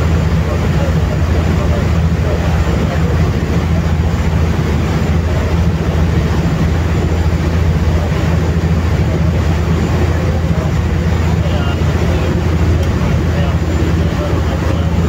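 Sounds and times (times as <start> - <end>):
ferry engine drone: 0.0 - 15.0
rushing wake water: 0.0 - 15.0.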